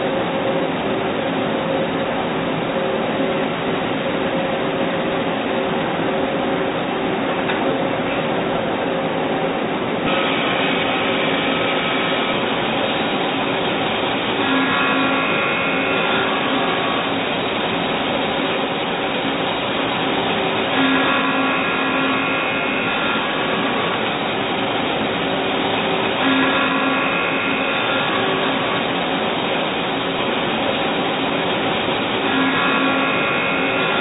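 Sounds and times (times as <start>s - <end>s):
lathe mechanical hiss and hum: 0.0s - 34.0s.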